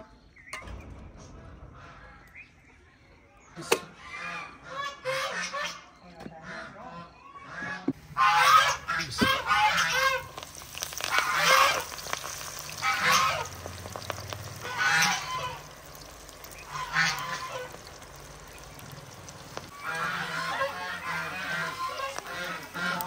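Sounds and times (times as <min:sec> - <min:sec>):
fowl honking calls: 0:03.6 - 0:23.0.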